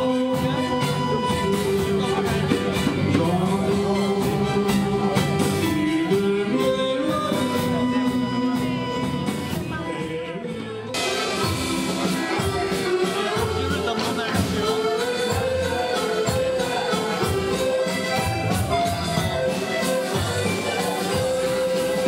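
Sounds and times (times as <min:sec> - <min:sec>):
congas: 0:00.0 - 0:22.0
drums: 0:00.0 - 0:22.0
keyboard: 0:00.0 - 0:22.0
person singing: 0:00.0 - 0:22.0.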